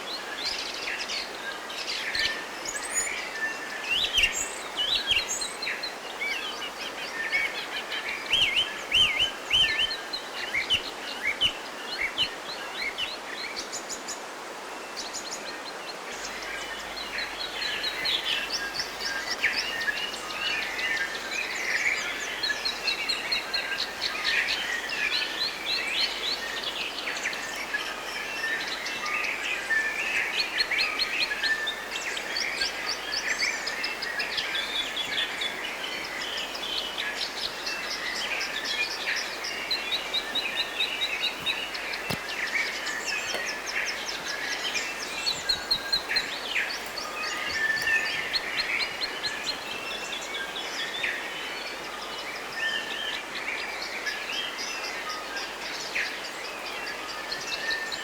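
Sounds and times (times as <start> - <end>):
faint steady hiss: 0.0 - 58.0
songbirds trilling and chirping: 0.0 - 58.0.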